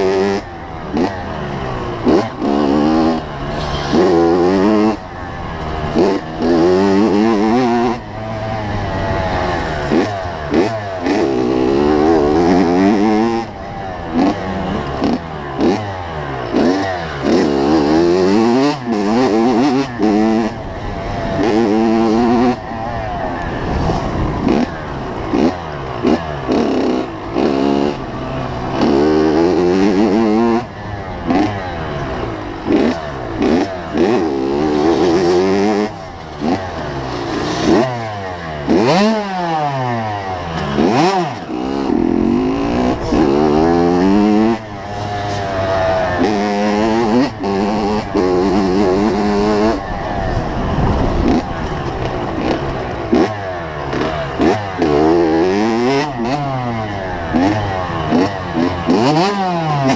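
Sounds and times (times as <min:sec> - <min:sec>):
two-stroke motorbike engine revving: 0:00.0 - 0:59.9.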